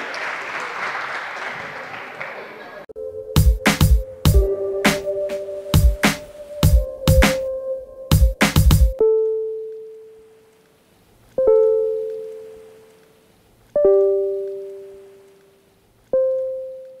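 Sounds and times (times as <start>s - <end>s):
soft keyboard chords: 3.0s - 17.0s.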